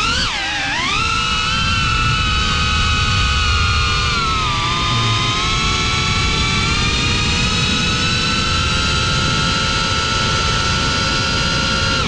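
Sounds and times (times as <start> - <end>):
drone motors whining: 0.0 - 12.0
rushing wind noise: 0.0 - 12.0.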